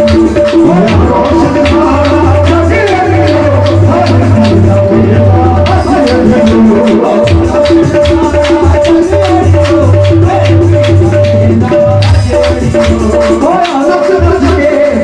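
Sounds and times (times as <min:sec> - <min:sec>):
deep drum: 0:00.0 - 0:13.6
harmonium notes: 0:00.0 - 0:15.0
percussion beat: 0:00.0 - 0:15.0.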